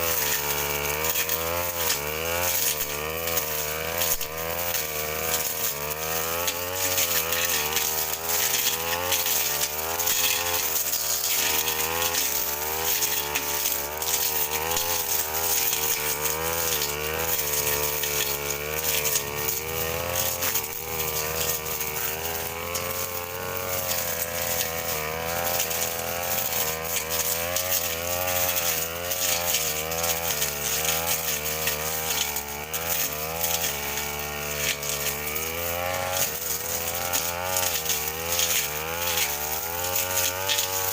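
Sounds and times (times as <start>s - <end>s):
brush cutter engine cutting grass: 0.0s - 40.9s.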